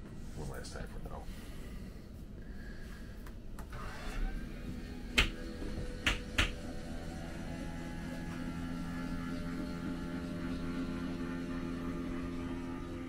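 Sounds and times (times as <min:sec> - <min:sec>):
electric hatch lift humming: 0:02.4 - 0:13.0.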